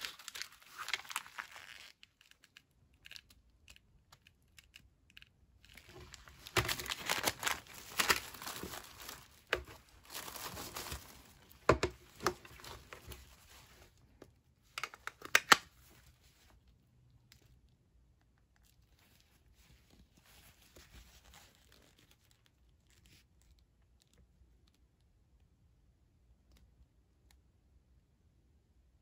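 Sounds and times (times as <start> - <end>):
faint rustling of gloved hands: 0.0 - 24.8.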